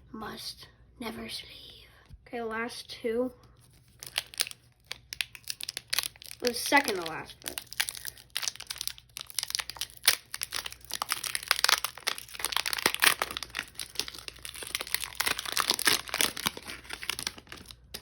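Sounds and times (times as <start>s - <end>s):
foil wrapper crinkling: 3.6s - 18.0s.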